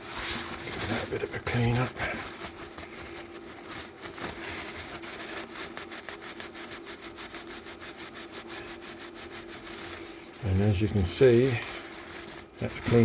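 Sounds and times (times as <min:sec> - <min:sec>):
wire wool scrubbing metal: 0:00.0 - 0:13.0.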